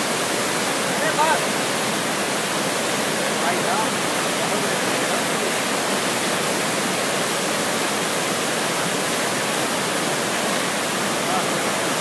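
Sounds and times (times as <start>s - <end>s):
river rapids rushing over boulders: 0.0s - 12.0s.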